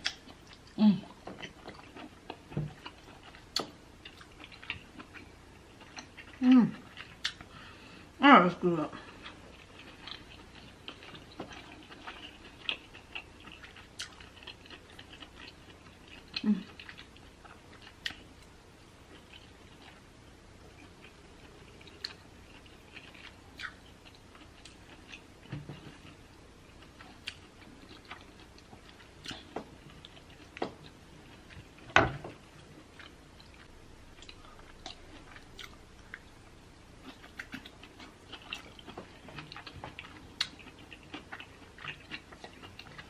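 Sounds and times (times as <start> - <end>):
close chewing and biting: 0.0 - 7.5, 9.0 - 18.5, 20.7 - 36.4, 37.0 - 43.0.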